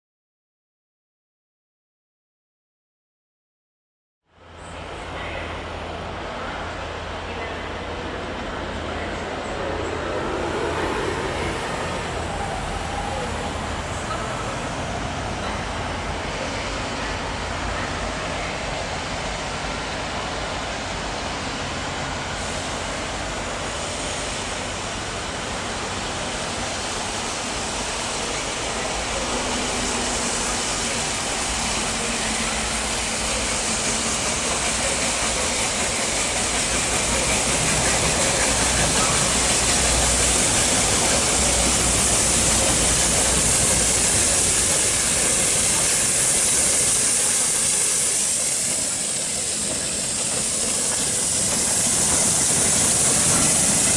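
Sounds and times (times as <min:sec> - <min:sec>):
train rumbling: 0:04.4 - 0:53.9
steam hissing: 0:08.3 - 0:53.9.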